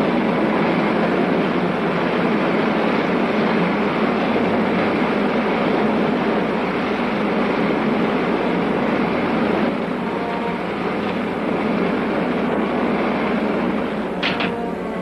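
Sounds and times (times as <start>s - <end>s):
rocket engine roar: 0.0s - 15.0s.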